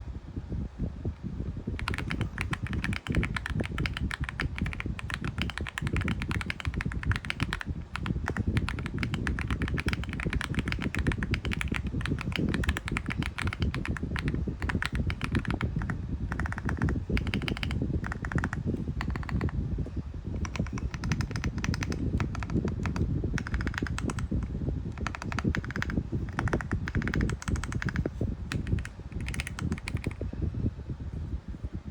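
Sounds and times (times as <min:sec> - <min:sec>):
fast keyboard typing clacks: 0:01.8 - 0:19.6, 0:20.4 - 0:30.2.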